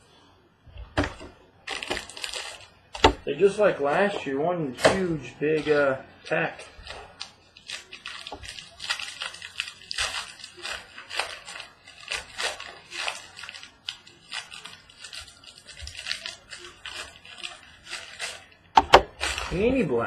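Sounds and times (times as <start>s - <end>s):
wrapper tearing and crinkling: 1.0s - 20.0s.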